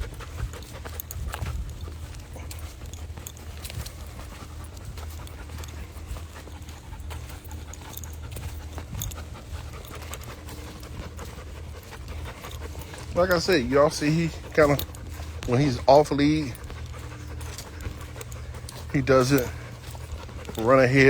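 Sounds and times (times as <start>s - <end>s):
dog panting: 0.0s - 21.0s
footsteps on trail: 0.0s - 21.0s.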